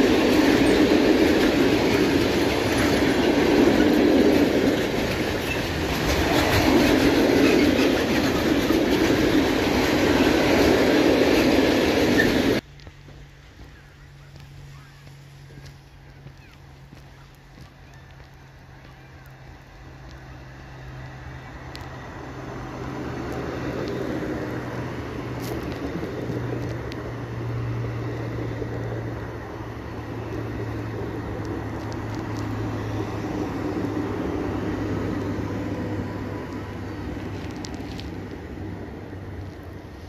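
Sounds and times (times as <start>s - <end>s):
train wheels rolling on rail: 0.0s - 40.0s.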